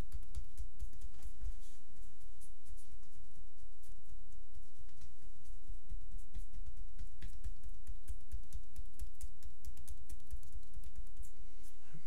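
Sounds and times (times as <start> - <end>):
hands slapping skin: 0.0 - 11.4.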